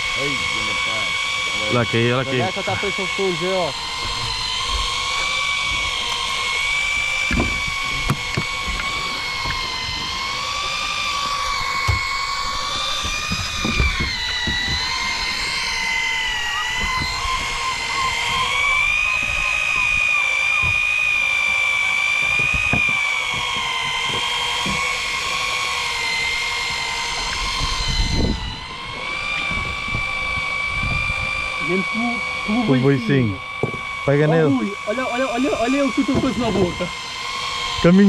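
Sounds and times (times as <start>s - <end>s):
electric fishing reel motor whine: 0.0s - 38.0s.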